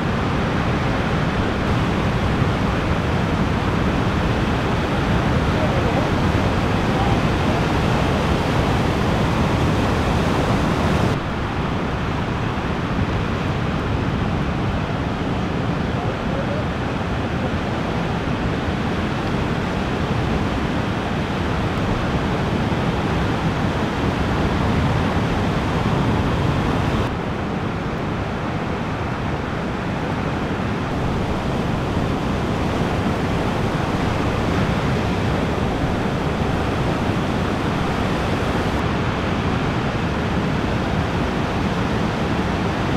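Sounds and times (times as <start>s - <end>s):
ocean surf breaking: 0.0s - 42.9s
wind rumbling on microphone: 0.0s - 42.9s.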